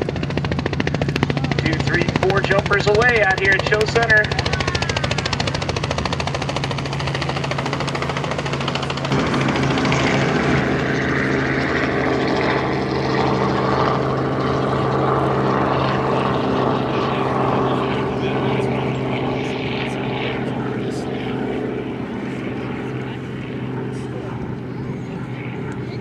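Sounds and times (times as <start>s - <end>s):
propeller airplane engine droning: 0.0s - 26.0s.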